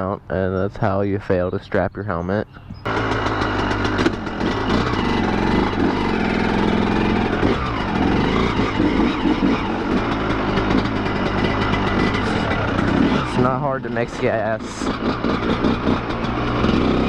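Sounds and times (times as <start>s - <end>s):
two-stroke dirt bike engine: 2.8s - 17.0s.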